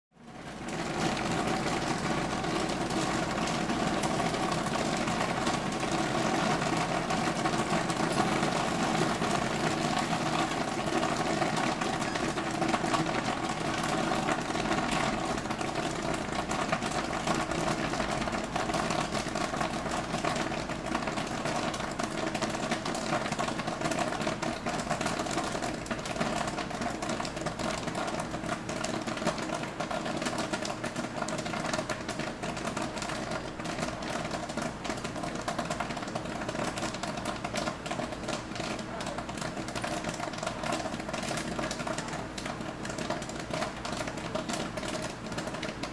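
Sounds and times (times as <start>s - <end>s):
popcorn clicking patter: 0.2s - 45.9s
popcorn machine humming: 0.2s - 45.9s.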